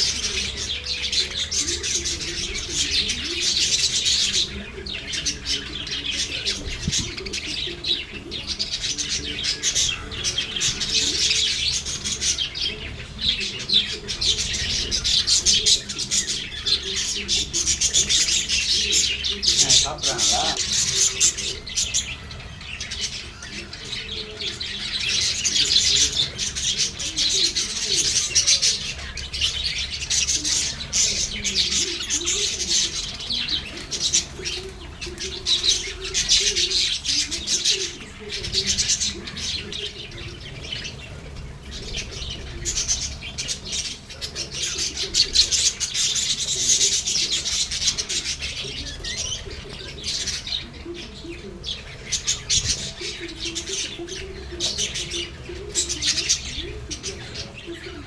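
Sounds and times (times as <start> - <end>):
lovebirds chirping and chattering: 0.0 - 58.0.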